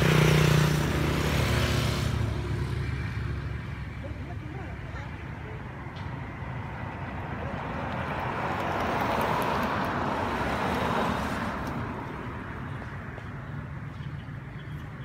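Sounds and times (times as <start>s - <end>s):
low traffic rumble: 0.0s - 15.0s
vehicle passing: 0.0s - 15.0s.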